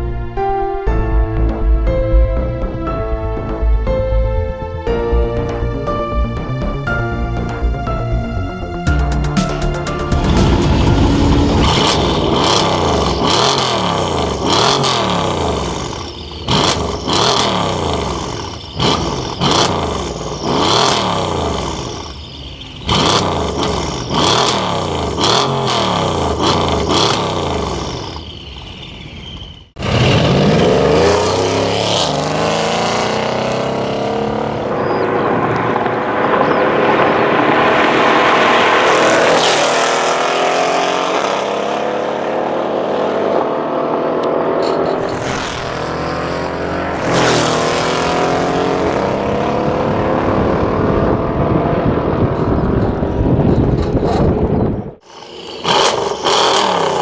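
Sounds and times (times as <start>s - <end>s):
car engine revving: 2.1s - 57.0s.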